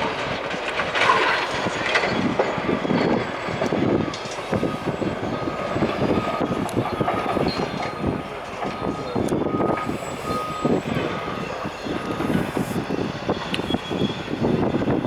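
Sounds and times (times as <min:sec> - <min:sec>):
concrete rubble crunching: 0:00.0 - 0:12.4.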